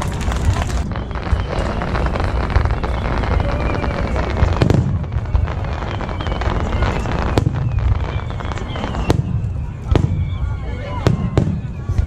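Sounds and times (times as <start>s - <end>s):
fireworks rumbling and crackling: 0.0s - 12.0s
fireworks sharp bangs: 0.0s - 12.0s.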